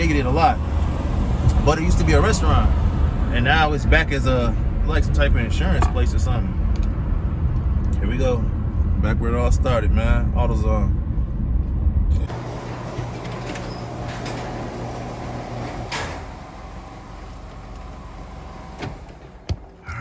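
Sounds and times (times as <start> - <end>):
car engine and cabin hum: 0.0 - 13.1, 14.8 - 20.0.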